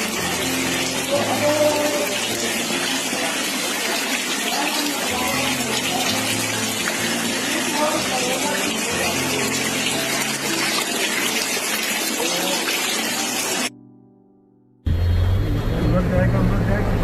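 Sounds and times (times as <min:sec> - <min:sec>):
rushing flood water: 0:00.0 - 0:13.7.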